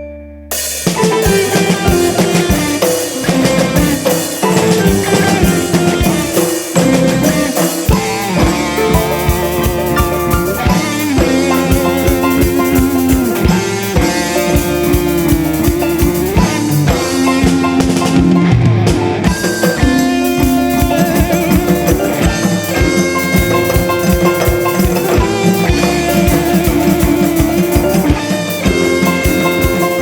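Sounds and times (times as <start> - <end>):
held melodic tones: 0.0 - 30.0
fast steady drumming: 0.5 - 30.0.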